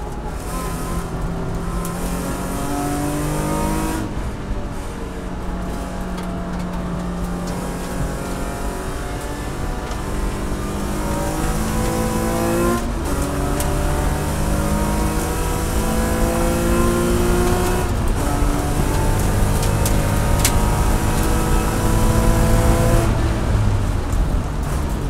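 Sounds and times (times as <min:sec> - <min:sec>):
race car engine at high revs: 0:00.0 - 0:25.0.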